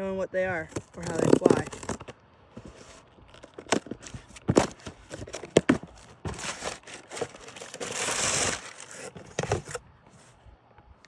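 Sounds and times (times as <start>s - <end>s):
packaging tearing and crinkling: 0.7s - 9.8s.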